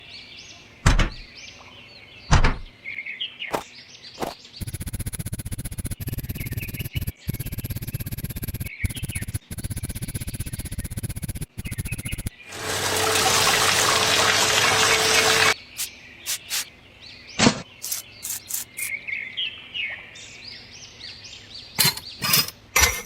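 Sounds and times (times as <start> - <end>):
birds chirping: 0.1 - 12.6, 14.2 - 23.0.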